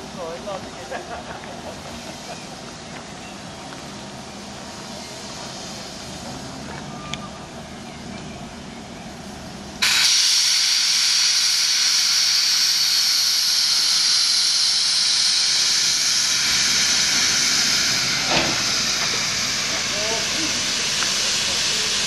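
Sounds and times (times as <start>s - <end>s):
locomotive steam hissing: 0.0s - 7.9s, 9.2s - 22.0s.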